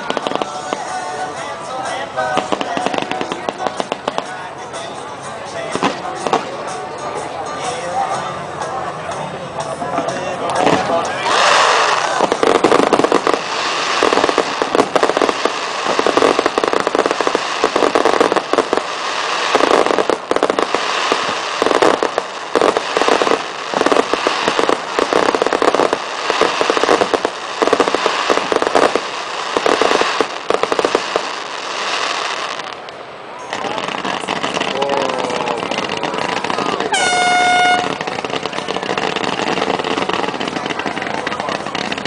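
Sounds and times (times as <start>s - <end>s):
fireworks crackling and banging: 0.0s - 7.7s, 9.6s - 42.0s.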